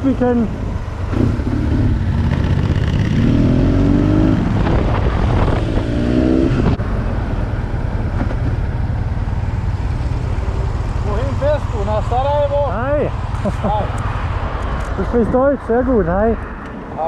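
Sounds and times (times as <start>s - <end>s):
road and wind rumble: 0.0s - 17.0s
motorcycle engine accelerating: 0.2s - 15.2s.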